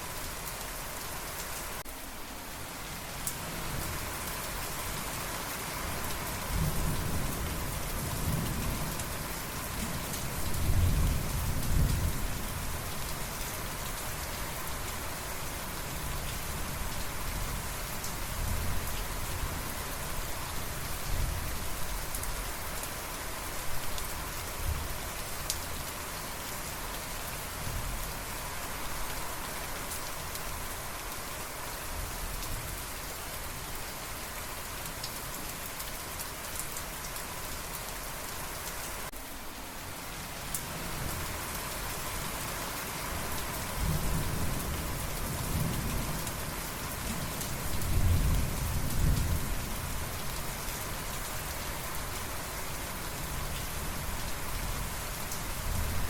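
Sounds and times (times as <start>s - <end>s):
rain pattering on surfaces: 0.0s - 56.0s.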